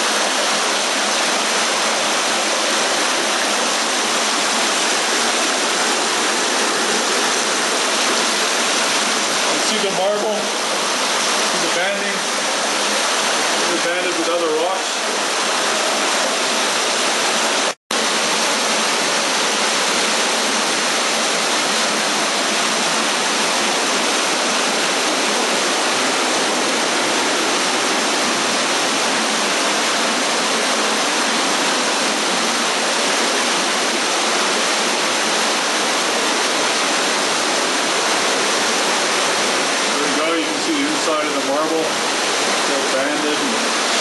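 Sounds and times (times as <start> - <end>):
creek rushing: 0.0 - 44.0.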